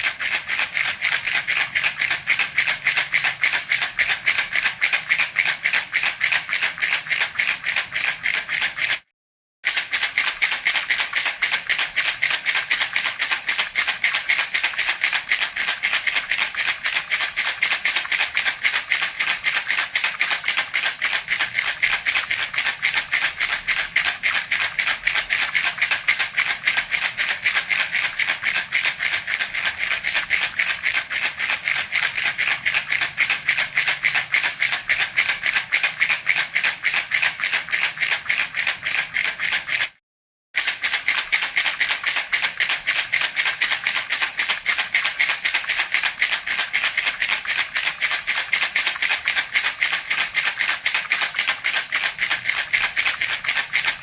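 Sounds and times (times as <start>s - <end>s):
baby's rattle shaken: 0.0s - 40.0s, 40.6s - 54.0s.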